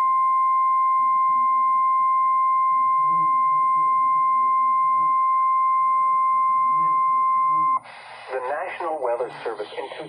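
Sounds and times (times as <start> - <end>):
weather radio alarm tone: 0.0 - 10.0.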